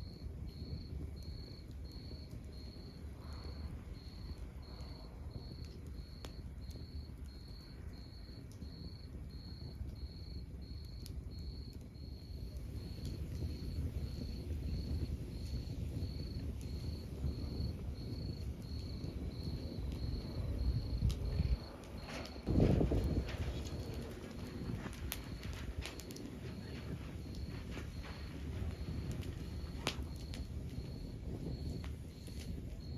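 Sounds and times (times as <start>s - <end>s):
cricket chirping: 0.0s - 32.9s
log fire crackling and popping: 0.0s - 32.9s.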